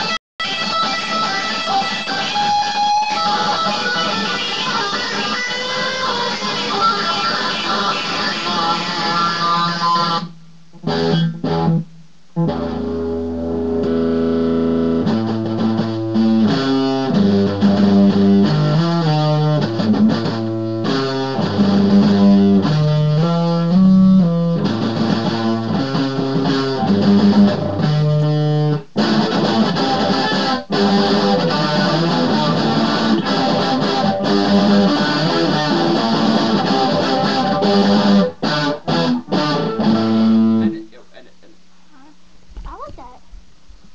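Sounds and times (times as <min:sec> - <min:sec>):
electric guitar with effects: 0:00.0 - 0:40.8.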